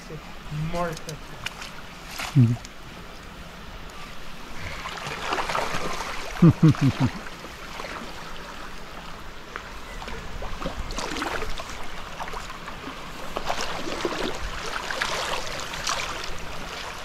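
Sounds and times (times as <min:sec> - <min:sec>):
stream flowing: 0:00.0 - 0:17.0
water splashing around wading legs: 0:00.8 - 0:02.8, 0:04.7 - 0:17.0.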